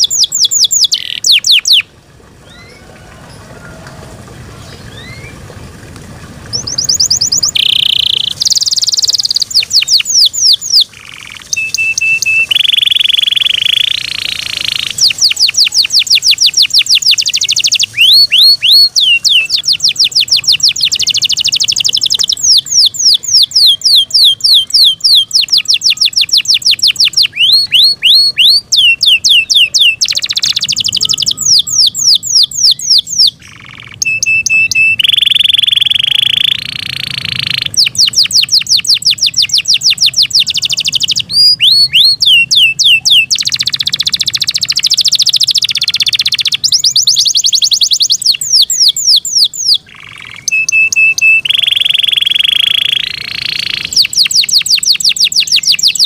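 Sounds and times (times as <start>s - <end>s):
canary singing: 0.0s - 3.7s, 4.6s - 5.4s, 6.5s - 56.0s.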